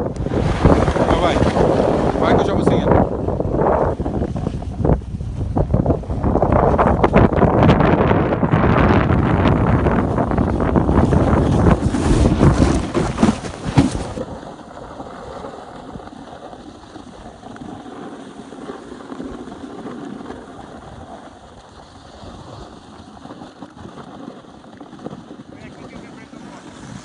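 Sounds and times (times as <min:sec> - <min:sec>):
wind buffeting microphone: 0:00.0 - 0:27.0
skis sliding on snow: 0:00.3 - 0:05.0, 0:05.6 - 0:07.3, 0:08.8 - 0:27.0.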